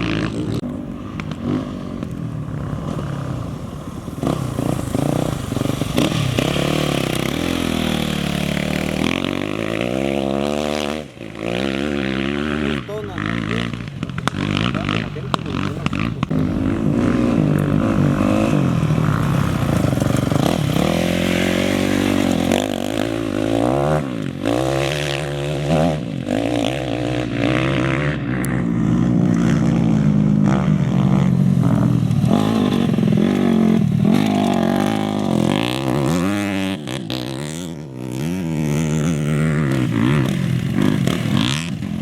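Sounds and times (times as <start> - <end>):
race engines revving: 0.0 - 42.0.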